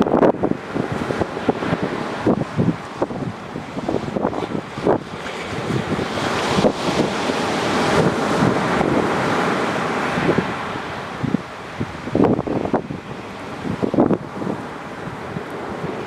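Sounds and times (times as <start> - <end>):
waves washing on beach: 0.0 - 16.0
wind buffeting microphone: 0.0 - 16.0.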